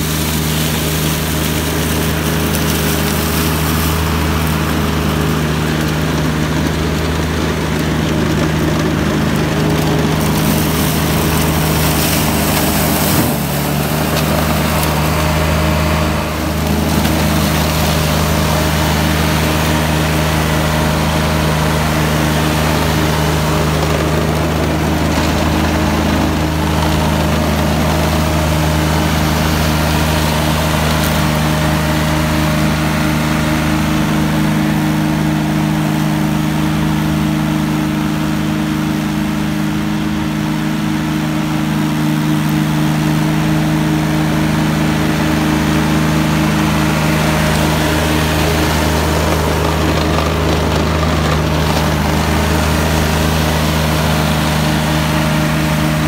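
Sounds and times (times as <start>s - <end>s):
flail mower droning: 0.0s - 56.0s.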